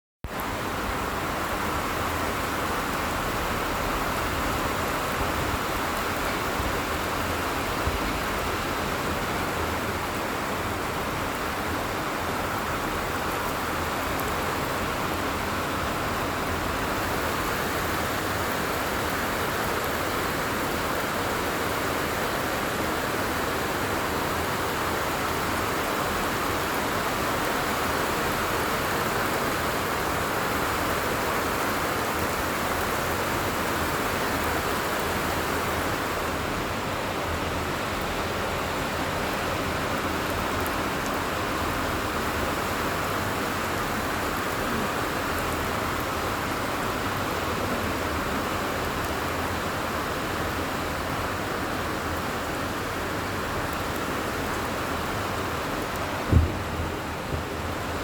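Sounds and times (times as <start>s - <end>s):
light rain falling: 0.2s - 58.0s.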